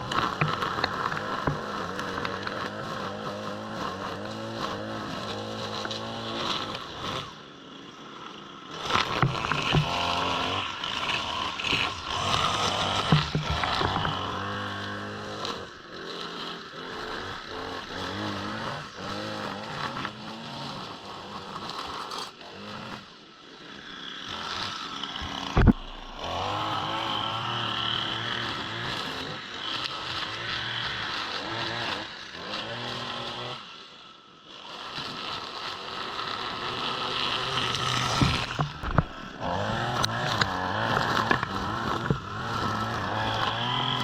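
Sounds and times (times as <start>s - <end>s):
small gas engine running: 0.0s - 44.0s.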